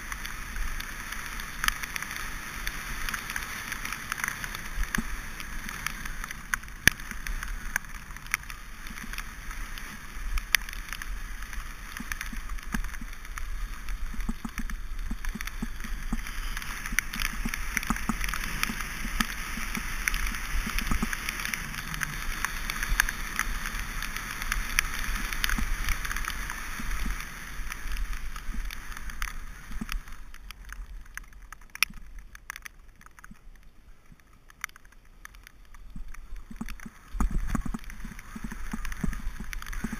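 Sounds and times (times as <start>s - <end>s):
bike tyres hissing on wet surface: 0.0s - 39.9s.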